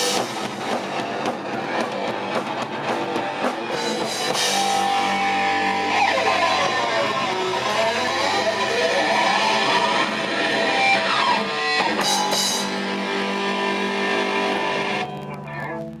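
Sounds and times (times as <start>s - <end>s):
electric guitar with sliding notes: 0.0s - 16.0s
rock band playing: 0.0s - 16.0s.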